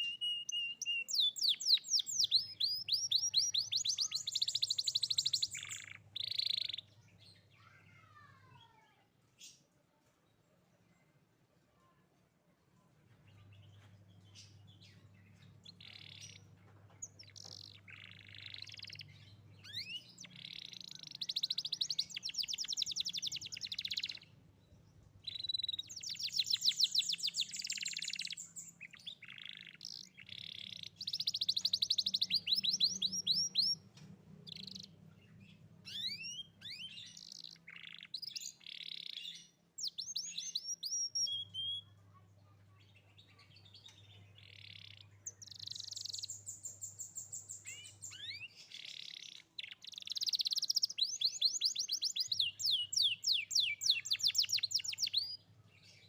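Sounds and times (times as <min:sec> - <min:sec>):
canary singing trills: 0:00.0 - 0:08.5, 0:13.3 - 0:24.5, 0:25.2 - 0:56.0.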